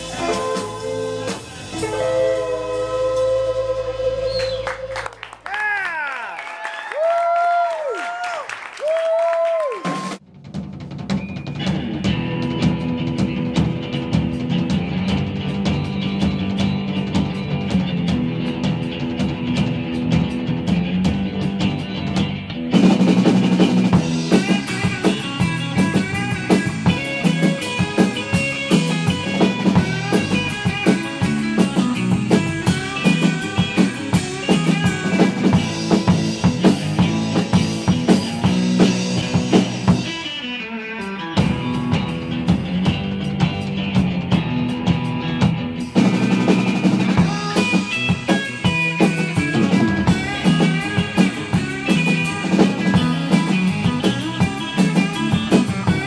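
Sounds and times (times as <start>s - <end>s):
drum kit: 0.0s - 5.1s, 8.9s - 56.0s
electric guitar: 0.0s - 5.3s, 11.1s - 56.0s
bass guitar: 0.0s - 6.1s, 9.0s - 56.0s.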